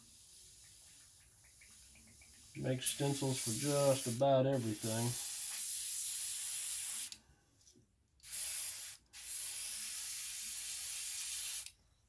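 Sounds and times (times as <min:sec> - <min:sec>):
airbrush hissing: 0:00.0 - 0:07.2, 0:08.3 - 0:11.7.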